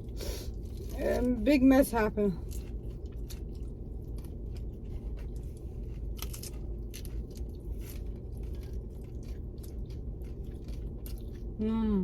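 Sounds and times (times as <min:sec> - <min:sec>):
chewing and crunching tacos: 0:00.0 - 0:11.6
low hum: 0:00.0 - 0:12.0.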